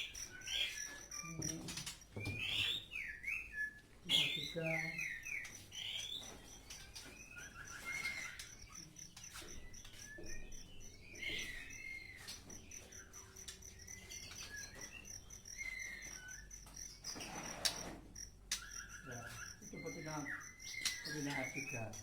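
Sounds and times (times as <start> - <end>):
insect pulsing chirp: 0.0 - 2.8, 4.2 - 22.0
birds chirping and whistling: 0.0 - 22.0.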